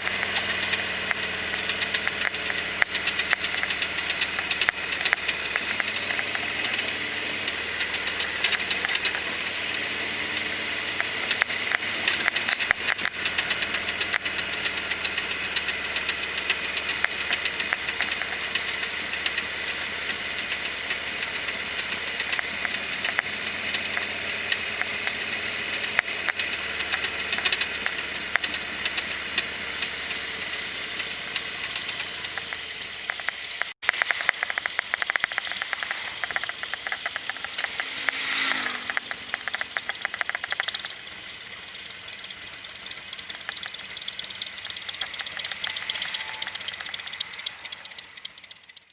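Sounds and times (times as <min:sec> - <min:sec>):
clicking rattle: 0:00.0 - 0:10.0, 0:10.9 - 0:30.2, 0:31.0 - 0:48.9
motorcycle engine running: 0:00.0 - 0:48.9.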